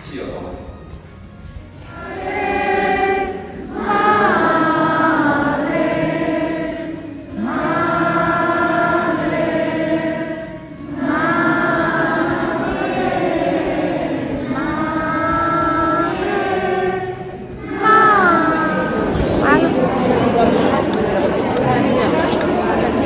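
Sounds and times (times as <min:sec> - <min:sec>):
choir singing a hymn: 0:01.8 - 0:23.0.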